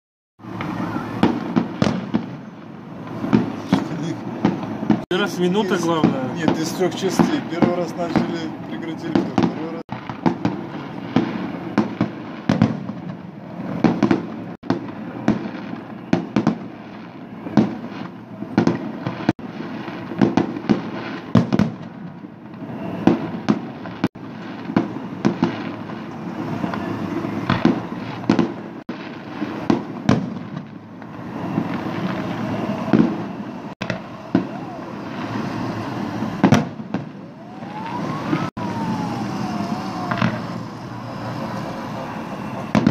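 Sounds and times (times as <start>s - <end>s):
fireworks bursting: 0.4s - 42.9s.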